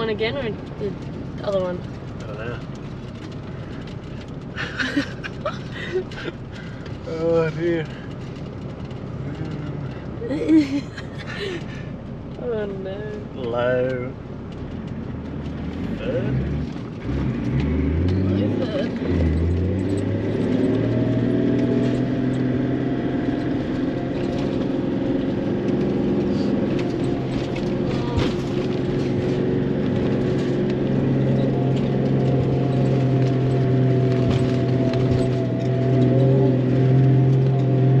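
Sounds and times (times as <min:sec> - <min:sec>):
vehicle engine pulling hard: 0:00.0 - 0:38.0.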